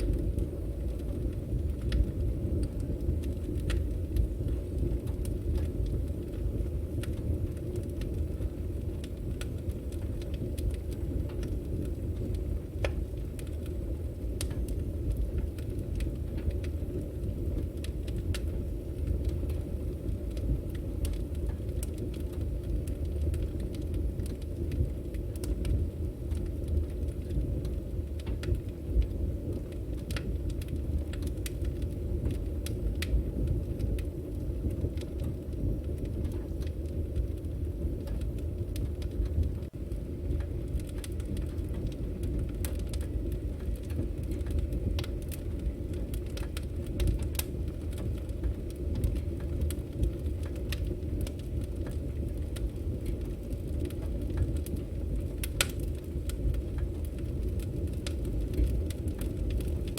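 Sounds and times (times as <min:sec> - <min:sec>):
logs crackling and popping: 0:00.0 - 0:59.9
rush of flames: 0:00.0 - 0:59.9.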